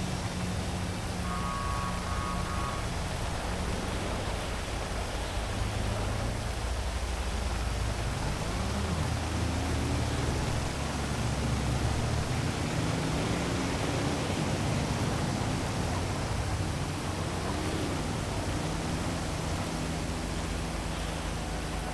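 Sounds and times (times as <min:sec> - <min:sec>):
heavy rain hissing: 0:00.0 - 0:21.9
low city rumble: 0:00.0 - 0:21.9
passing traffic: 0:00.0 - 0:21.9.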